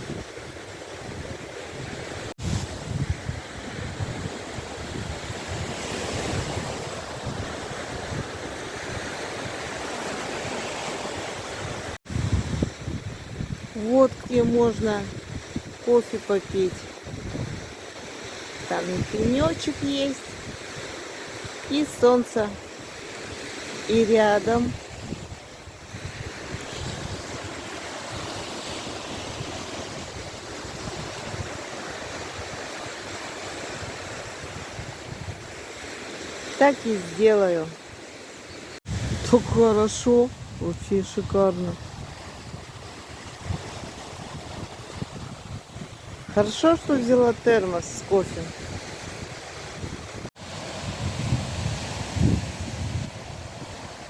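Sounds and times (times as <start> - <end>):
wind buffeting microphone: 0.0 - 15.9, 16.6 - 17.8, 24.2 - 36.2, 38.8 - 54.0
waves washing on shore: 0.0 - 54.0.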